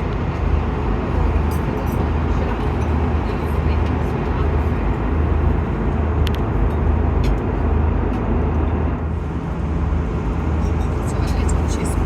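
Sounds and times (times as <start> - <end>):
aircraft cabin rumble and hiss: 0.0 - 12.0.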